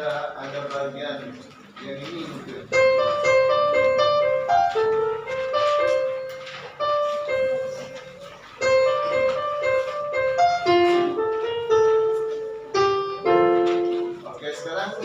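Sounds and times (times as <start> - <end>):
piano melody: 2.6 - 15.0.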